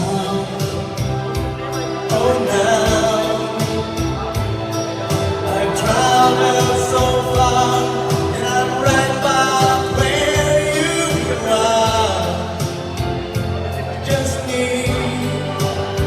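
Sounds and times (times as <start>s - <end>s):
song over speaker system: 0.0s - 16.0s.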